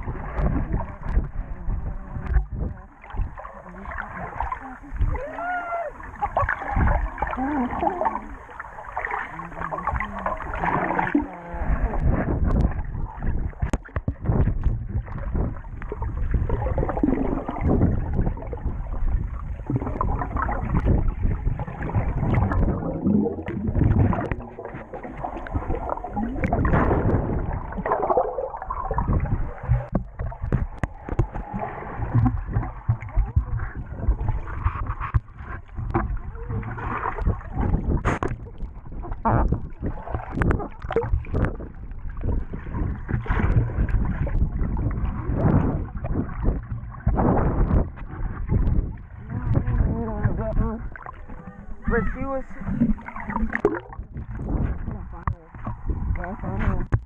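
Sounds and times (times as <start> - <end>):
low rumble: 0.0 - 57.0
underwater churning and bubbling: 0.0 - 57.0.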